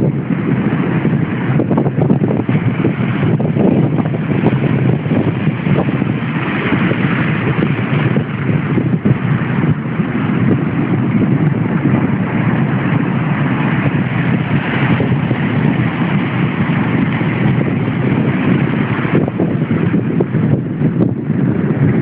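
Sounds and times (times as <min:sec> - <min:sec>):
sea surf crashing over boulders: 0:00.0 - 0:22.0
wind buffeting microphone: 0:00.0 - 0:22.0.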